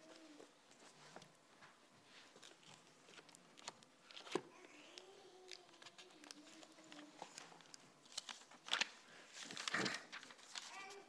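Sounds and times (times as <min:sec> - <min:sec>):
book handling clicks and rustles: 0:00.0 - 0:11.0.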